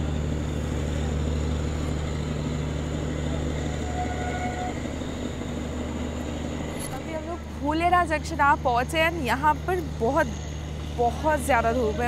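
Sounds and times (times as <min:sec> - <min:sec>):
train humming and rumbling: 0:00.0 - 0:12.0.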